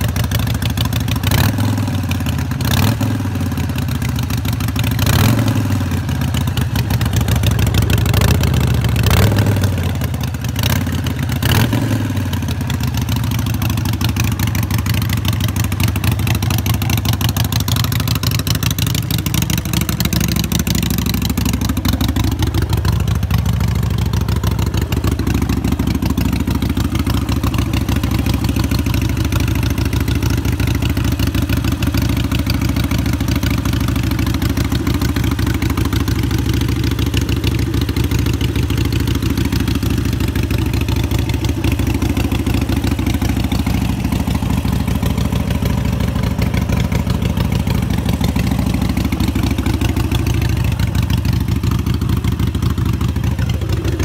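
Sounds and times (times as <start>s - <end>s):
motorcycle engine revving and idling: 0.0s - 54.0s.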